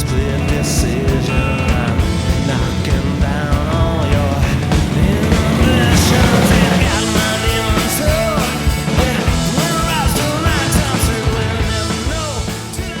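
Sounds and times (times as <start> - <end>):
drums: 0.0 - 13.0
person singing: 0.0 - 13.0
rock music: 0.0 - 13.0.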